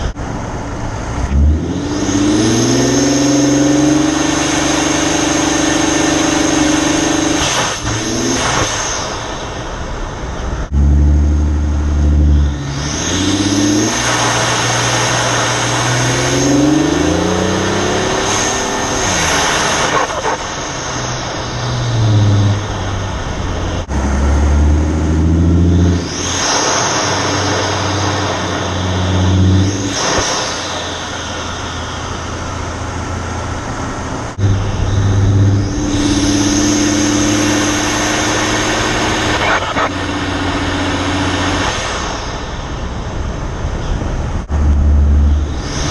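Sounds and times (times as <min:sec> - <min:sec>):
car engine revving hard: 0:00.0 - 0:09.4, 0:10.6 - 0:42.7, 0:44.4 - 0:45.9.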